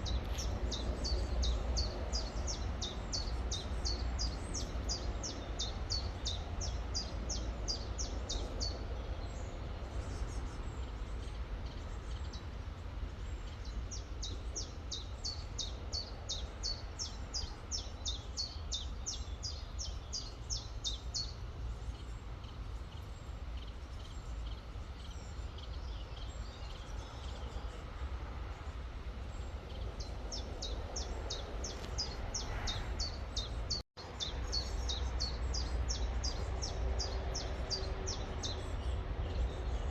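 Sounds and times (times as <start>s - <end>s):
songbird chirping: 0.0s - 12.6s, 13.2s - 39.9s.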